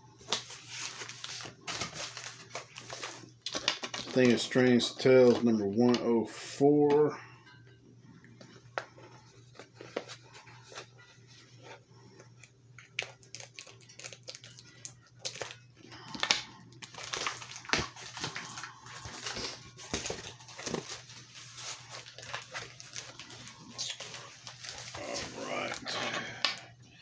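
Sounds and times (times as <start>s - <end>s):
packaging crinkling and rustling: 0.2s - 6.1s, 8.8s - 25.9s.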